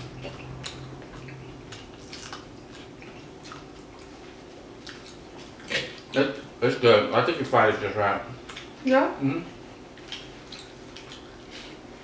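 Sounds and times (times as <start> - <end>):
people chewing: 0.0 - 6.5, 7.3 - 12.0.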